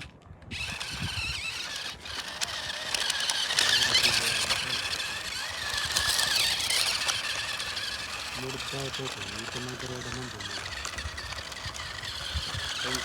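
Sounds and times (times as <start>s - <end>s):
small electric motor whining: 0.5s - 13.0s
light clicking and rattling: 0.7s - 13.0s.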